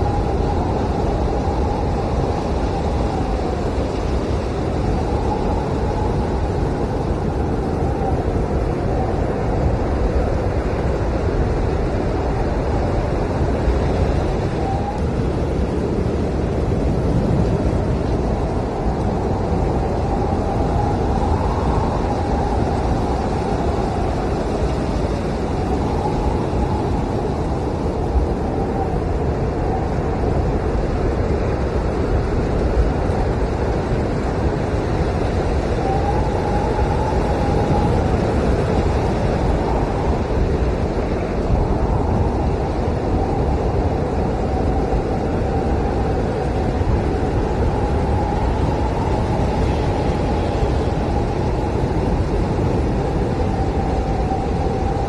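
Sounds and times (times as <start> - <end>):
blizzard wind blowing hard: 0.0 - 55.0.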